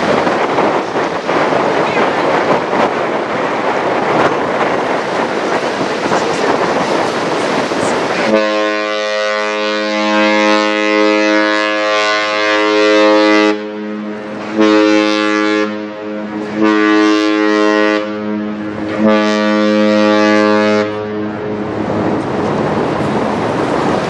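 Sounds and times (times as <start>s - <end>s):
ship's horn blasts: 0.0s - 23.9s.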